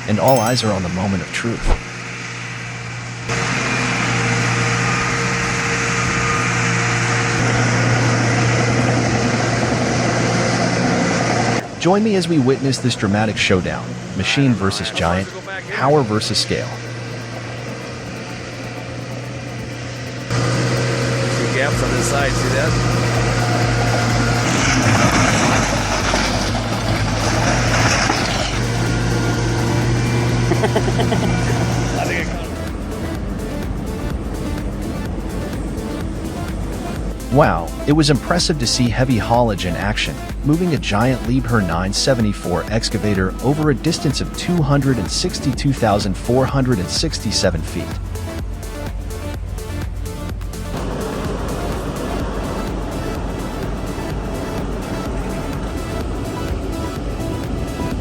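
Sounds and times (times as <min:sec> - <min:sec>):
heavy vehicle engine humming: 0:01.6 - 0:11.8, 0:12.4 - 0:45.4, 0:46.0 - 0:58.0.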